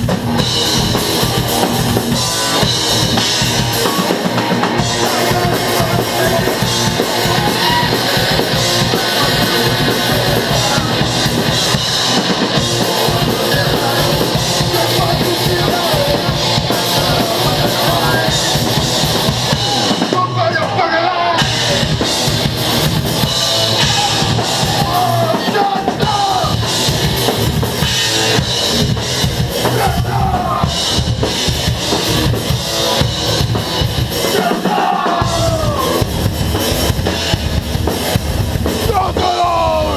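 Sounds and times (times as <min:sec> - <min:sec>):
bass drum: 0:00.0 - 0:20.0, 0:21.4 - 0:39.9
heavy metal band playing live: 0:00.0 - 0:39.9.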